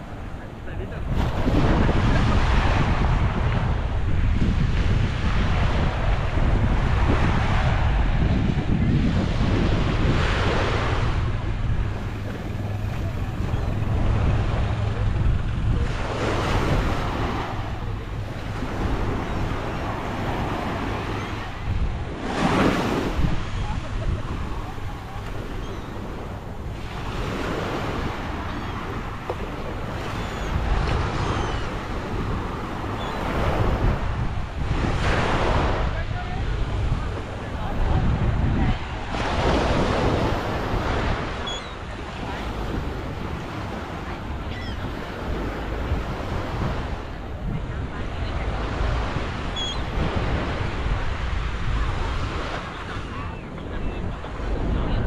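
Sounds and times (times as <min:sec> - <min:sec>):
small waves breaking on beach: 0:00.0 - 0:55.0
wind rumbling on microphone: 0:00.0 - 0:55.0.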